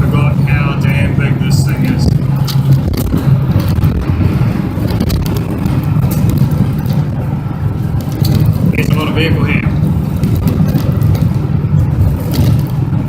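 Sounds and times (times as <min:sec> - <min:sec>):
bus engine droning: 0:00.0 - 0:13.0
sharp clicks and knocks: 0:01.6 - 0:13.0.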